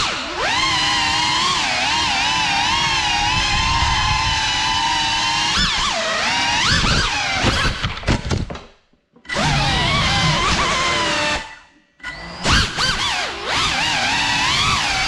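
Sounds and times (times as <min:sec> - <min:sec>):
quadcopter motors whining: 0:00.0 - 0:08.0, 0:09.3 - 0:15.0.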